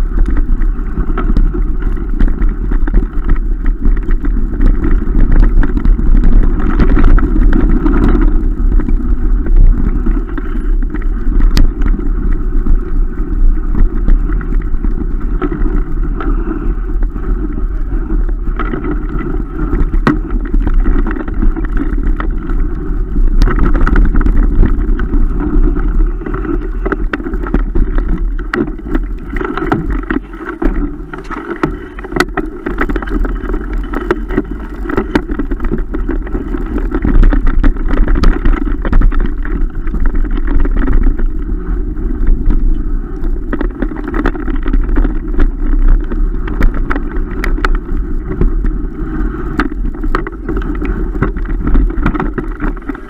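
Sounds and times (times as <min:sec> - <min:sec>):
bike rattling over bumps: 0:00.0 - 0:53.0
wind and tyre rumble: 0:00.0 - 0:53.0.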